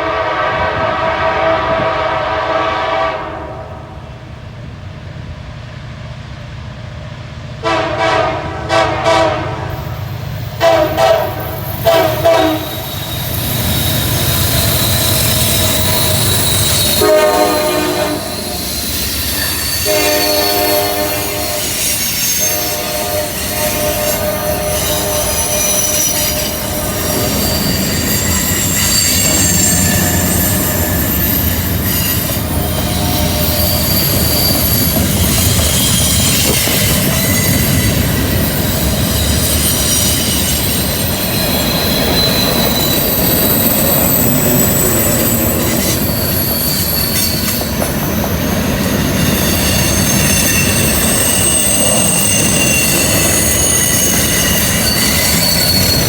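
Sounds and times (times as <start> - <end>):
train wheels rumbling on rails: 0.0 - 56.0
wheels squealing against rails: 7.6 - 56.0.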